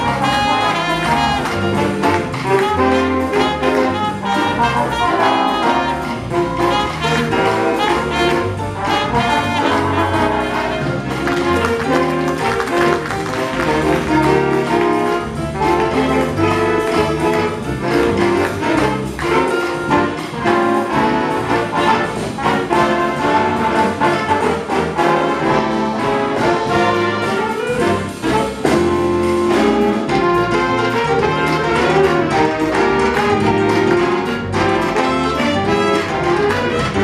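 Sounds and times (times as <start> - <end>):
big band playing mambo: 0.0 - 37.0.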